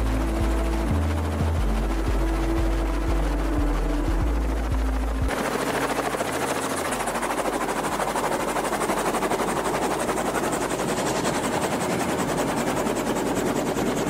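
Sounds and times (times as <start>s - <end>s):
helicopter rotor chopping: 0.0s - 14.0s.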